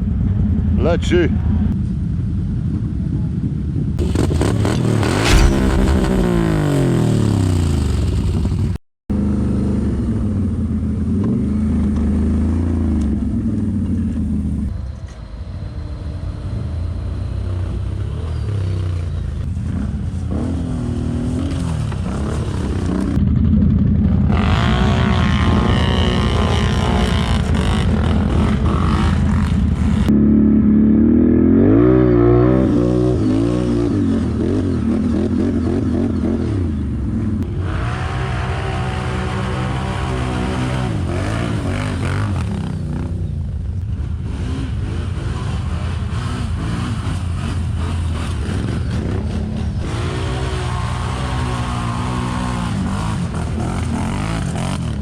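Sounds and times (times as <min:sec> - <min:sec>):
atv engines revving: 0:04.0 - 0:14.8, 0:15.8 - 0:55.0.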